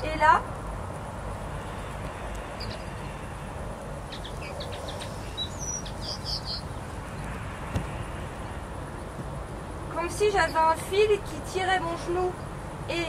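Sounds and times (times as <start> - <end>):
low outdoor rumble: 0.0 - 13.0
songbird chirping: 1.5 - 12.6.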